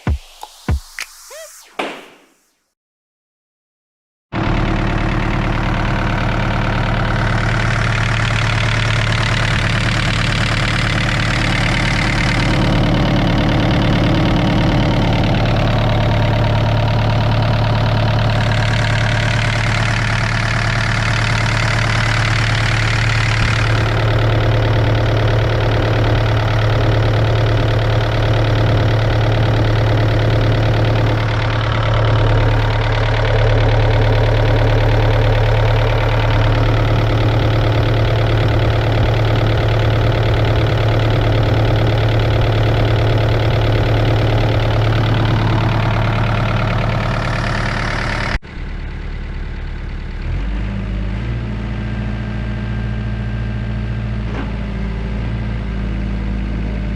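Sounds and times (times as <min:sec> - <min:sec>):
diesel engine idling: 0:04.4 - 0:56.9.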